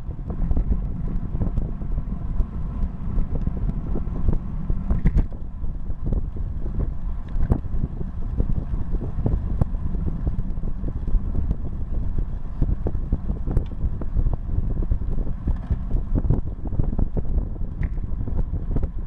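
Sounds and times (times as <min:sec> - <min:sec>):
bike tyres rumbling on asphalt: 0:00.0 - 0:19.0
wind buffeting microphone: 0:00.0 - 0:19.0.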